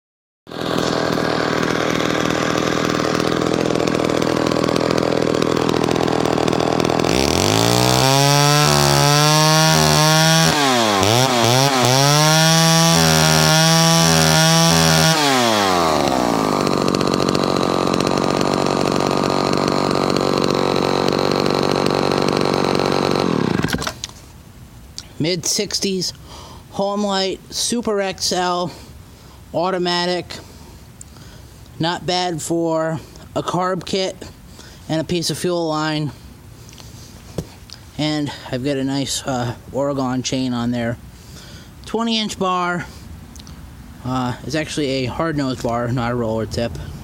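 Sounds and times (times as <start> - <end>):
chainsaw idling and revving: 0.5 - 24.2, 25.4 - 47.0.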